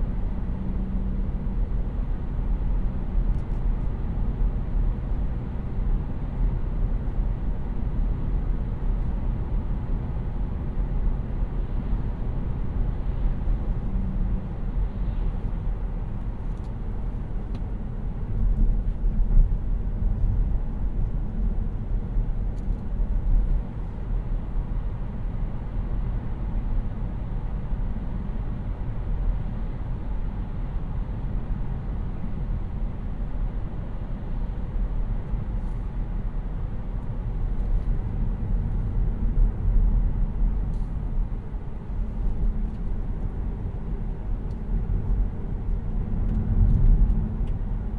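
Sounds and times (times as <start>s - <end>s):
road and tyre noise: 0.0s - 47.9s.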